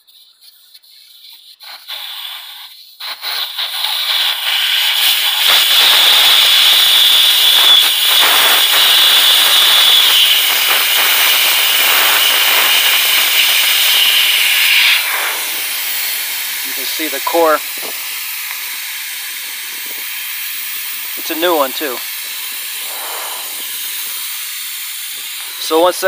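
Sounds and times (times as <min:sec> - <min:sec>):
air hissing out of tire valve: 0:00.8 - 0:26.0.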